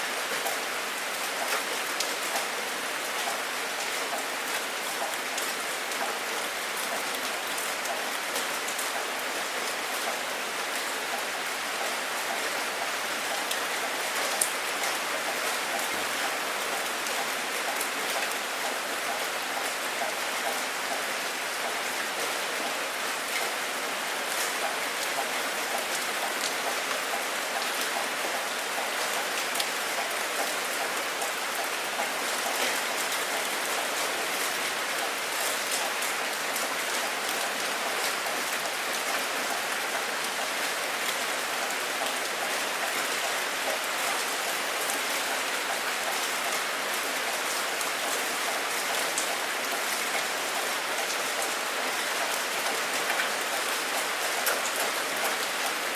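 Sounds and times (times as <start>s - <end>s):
rain pattering on a surface: 0.0s - 55.9s.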